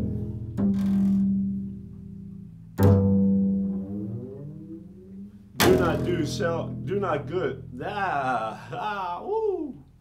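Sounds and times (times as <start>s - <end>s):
double bass plucked notes: 0.0s - 10.0s.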